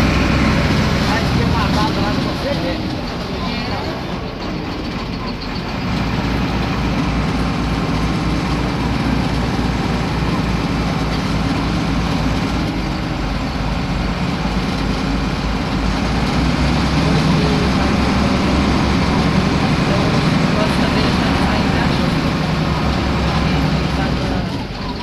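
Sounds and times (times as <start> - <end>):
diesel bus engine running: 0.0 - 25.0.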